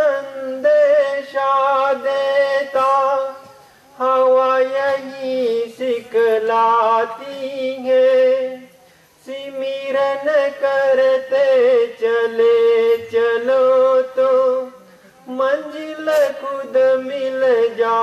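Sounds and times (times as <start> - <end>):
man singing devotional song: 0.0 - 18.0.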